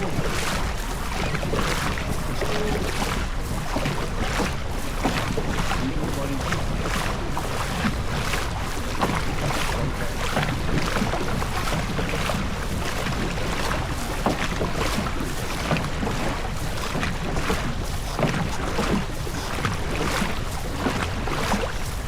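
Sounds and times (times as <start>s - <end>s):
rushing water from boat: 0.0s - 22.0s
wind buffeting microphone: 0.0s - 22.0s.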